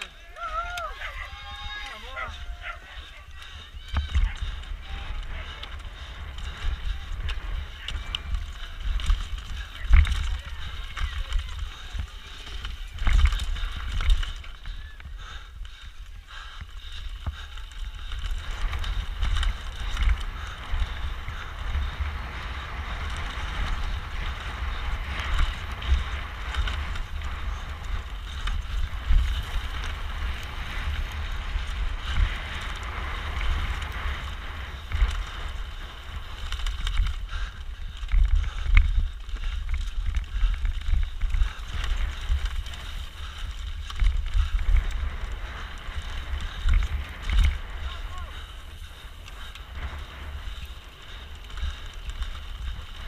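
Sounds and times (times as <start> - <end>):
bike rattling and knocking: 0.0 - 53.0
tyres hissing on trail: 0.0 - 53.0
wind buffeting microphone: 0.0 - 53.0.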